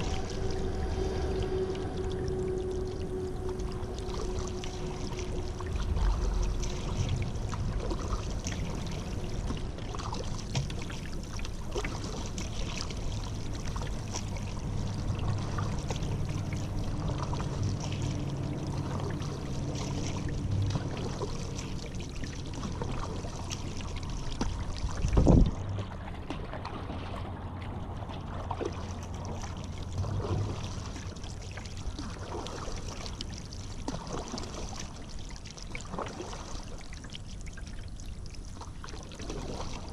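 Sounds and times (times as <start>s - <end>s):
paddles dipping and splashing: 0.0s - 39.9s
steady low hum: 0.0s - 39.9s
water dripping and trickling: 0.0s - 39.9s.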